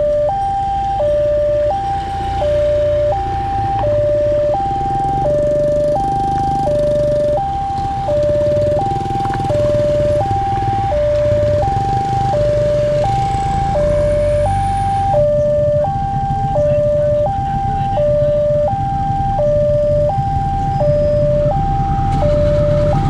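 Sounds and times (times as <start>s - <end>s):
two-tone crossing alarm: 0.0s - 23.0s.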